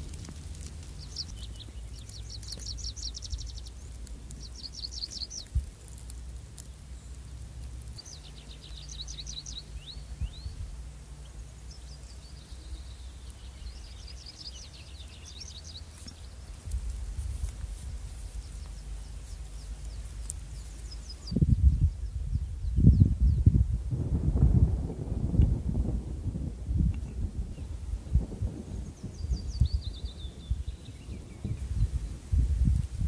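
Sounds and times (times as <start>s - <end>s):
low wind rumble: 0.0s - 33.0s
songbird singing: 0.0s - 33.0s.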